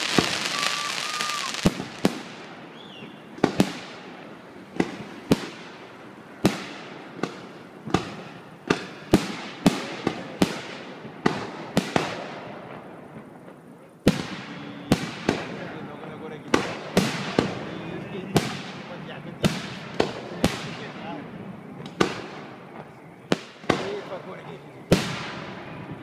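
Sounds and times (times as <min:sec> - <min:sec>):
fireworks bursting with bangs: 0:00.0 - 0:26.0.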